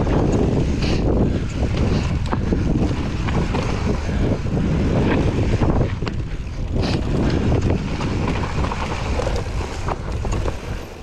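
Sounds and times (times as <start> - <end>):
bike knocks and rattles: 0.0 - 11.0
tyres rolling over dirt: 0.0 - 11.0
wind rushing over microphone: 0.0 - 11.0.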